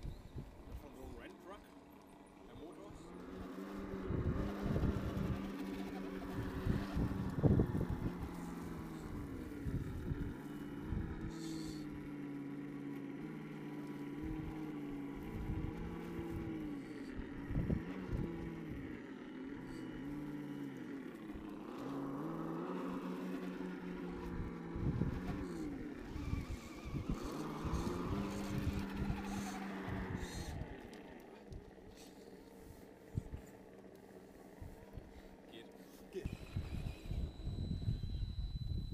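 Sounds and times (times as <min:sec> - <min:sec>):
toy car electric motor whining: 0:02.9 - 0:34.3, 0:35.1 - 0:38.9.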